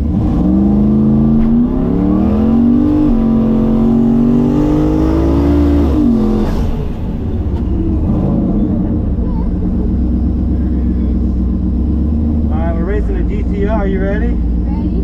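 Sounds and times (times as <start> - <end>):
race car engine at full throttle: 0.0 - 15.0.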